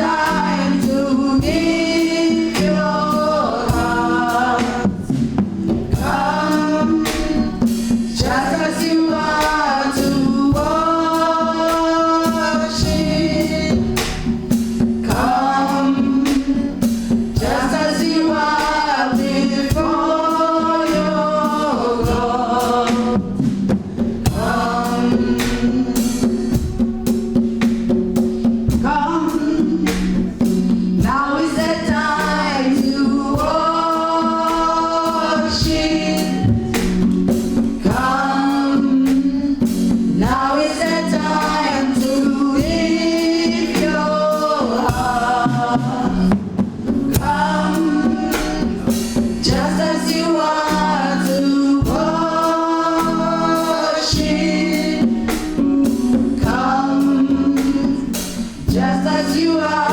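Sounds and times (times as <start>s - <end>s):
drum kit: 0.0s - 59.9s
gospel choir singing: 0.0s - 59.9s.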